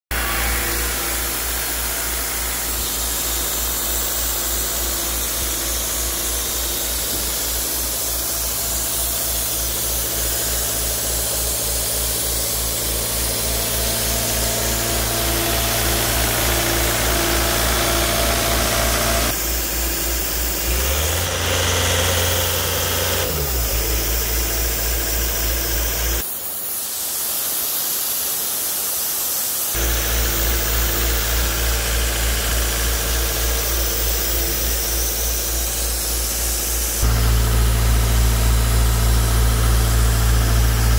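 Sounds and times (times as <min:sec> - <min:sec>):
air compressor diesel engine running: 0:00.1 - 0:26.2, 0:29.8 - 0:40.9.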